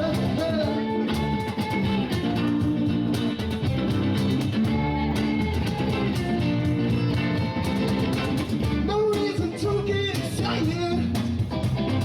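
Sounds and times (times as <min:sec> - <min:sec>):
electric guitar: 0:00.0 - 0:12.0
live rock band playing: 0:00.0 - 0:12.0.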